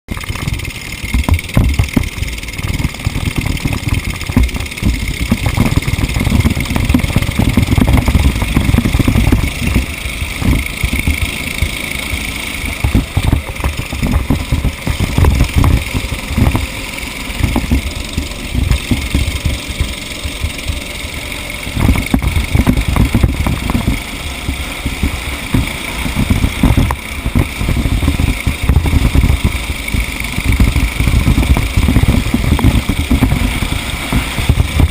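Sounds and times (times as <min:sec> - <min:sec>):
wind buffeting microphone: 0:00.4 - 0:34.9.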